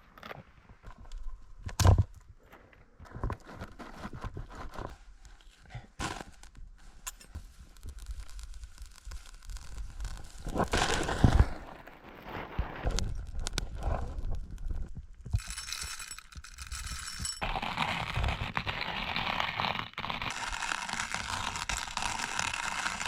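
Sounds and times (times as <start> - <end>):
rustling and crinkling: 0.0 - 18.8.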